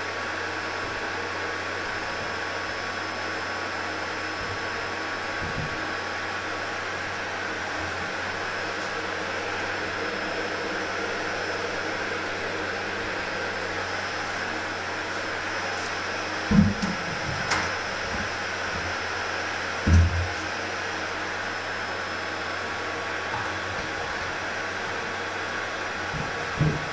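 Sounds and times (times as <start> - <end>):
centrifuge motor whining hum: 0.0 - 26.9.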